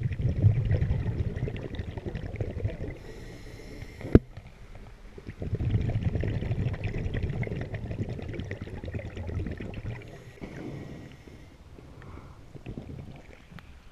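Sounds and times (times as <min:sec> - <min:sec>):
underwater regulator bubbles: 0:00.0 - 0:13.7.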